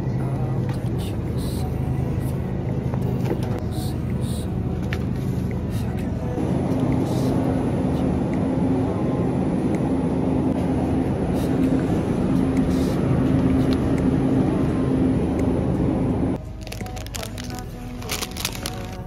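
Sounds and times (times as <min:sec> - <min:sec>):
refrigerator hum and rumble: 0:00.0 - 0:19.0.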